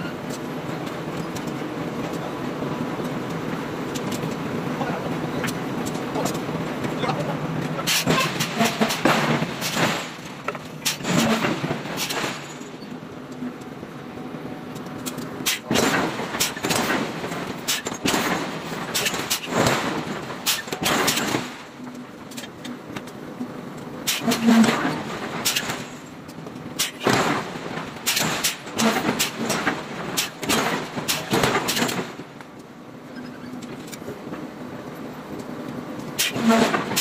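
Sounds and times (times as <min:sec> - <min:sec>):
workshop din: 0:00.0 - 0:37.0.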